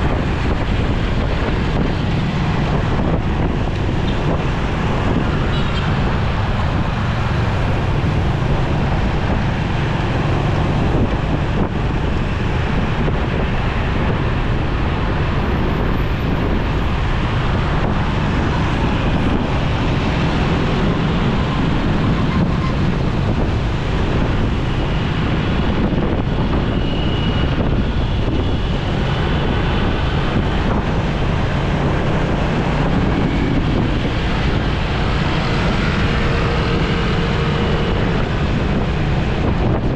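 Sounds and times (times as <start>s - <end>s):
road traffic: 0.0s - 39.9s
wind buffeting microphone: 0.0s - 39.9s.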